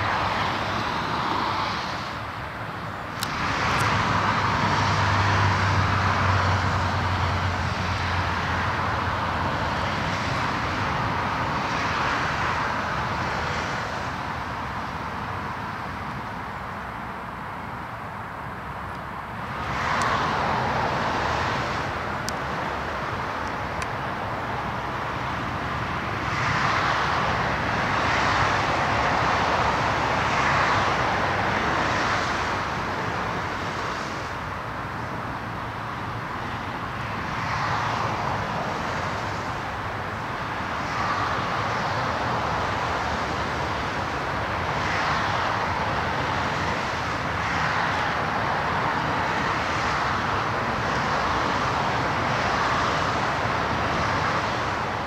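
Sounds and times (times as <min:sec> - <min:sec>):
passing road traffic: 0:00.0 - 0:55.0.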